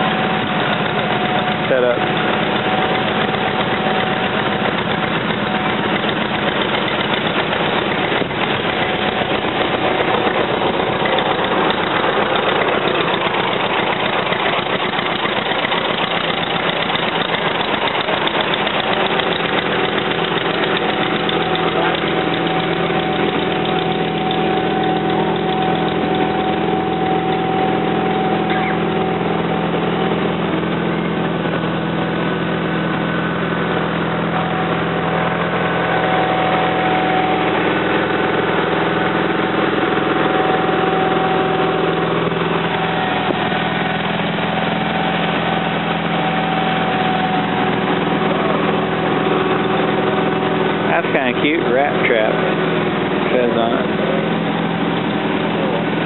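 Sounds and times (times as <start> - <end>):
engine running steadily: 0.0 - 56.0
thin steady whine: 0.0 - 56.0.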